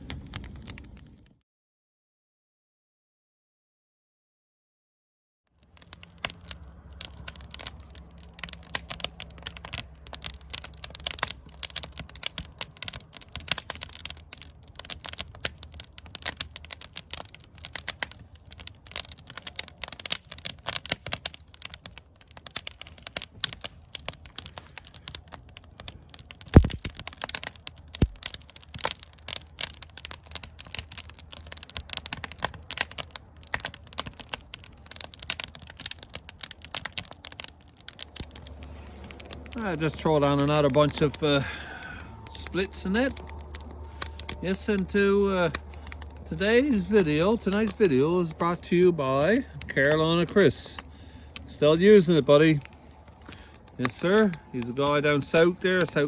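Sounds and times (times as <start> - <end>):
sharp pops of fire: 0.0 - 1.4, 5.6 - 56.0
wood fire crackling: 0.0 - 1.4, 5.5 - 56.0.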